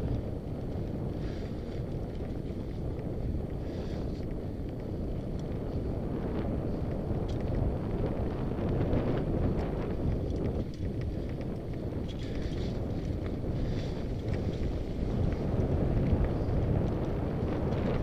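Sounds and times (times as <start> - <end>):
bike clicks and rattles: 0.0 - 18.0
bike tyres rolling on dirt: 0.0 - 18.0
wind on microphone: 0.0 - 18.0.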